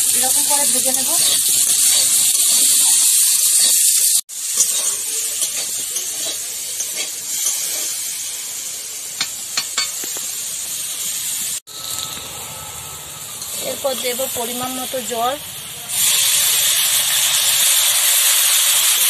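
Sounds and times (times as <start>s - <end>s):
food frying sizzle: 0.0s - 19.0s.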